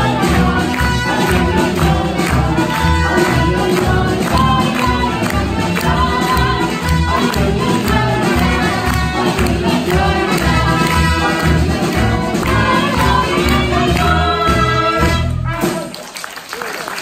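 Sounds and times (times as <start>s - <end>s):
group vocals singing: 0.0s - 15.3s
woman singing: 0.0s - 15.3s
klezmer band playing: 0.0s - 16.5s.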